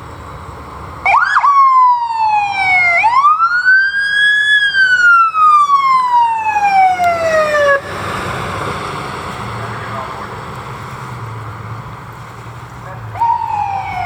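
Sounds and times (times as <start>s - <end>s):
emergency siren wailing: 1.0s - 11.1s, 12.0s - 14.0s.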